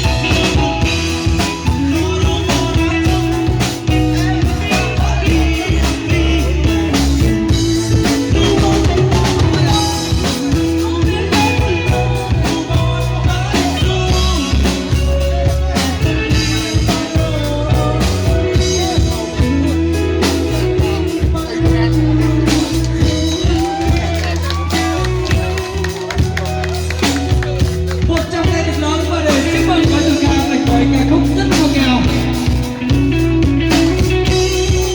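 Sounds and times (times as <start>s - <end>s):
bass line: 0.0s - 34.9s
drums: 0.0s - 34.9s
person singing: 0.0s - 34.9s.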